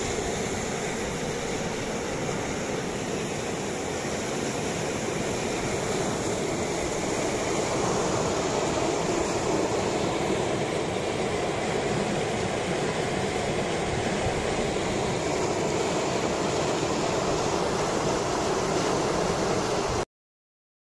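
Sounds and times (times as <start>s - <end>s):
flood water rushing: 0.0s - 20.0s.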